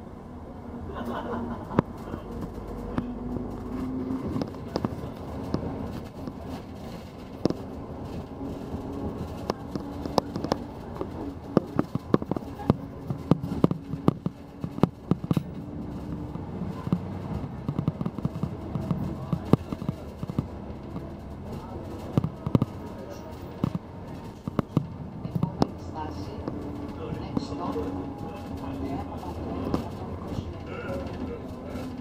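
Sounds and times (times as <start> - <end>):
vehicle engine and road hum: 0.0 - 32.0
sharp irregular clicks and knocks: 1.6 - 32.0.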